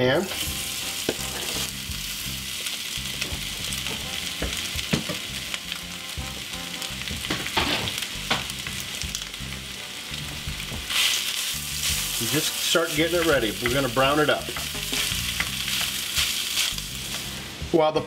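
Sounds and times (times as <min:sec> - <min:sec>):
meat sizzling in oil: 0:00.0 - 0:17.7.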